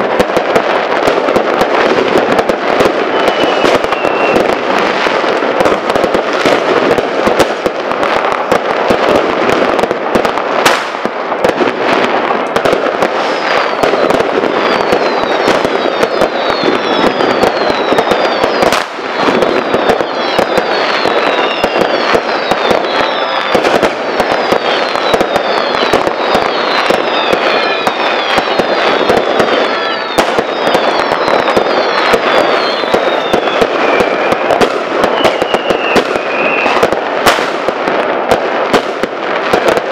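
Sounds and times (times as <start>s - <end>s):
firecrackers crackling and banging: 0.0s - 39.9s
fireworks whistles falling in pitch: 0.0s - 39.9s.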